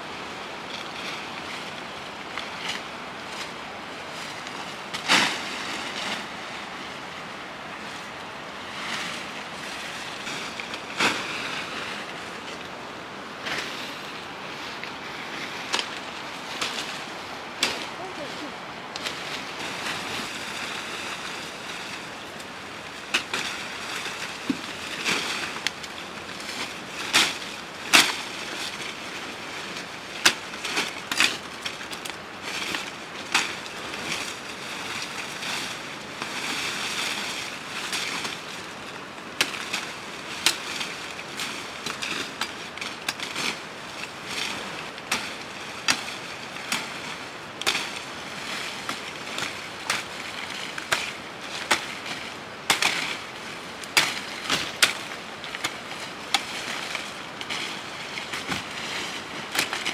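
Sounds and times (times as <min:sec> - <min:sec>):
tree branches rustling: 0:00.0 - 0:59.9.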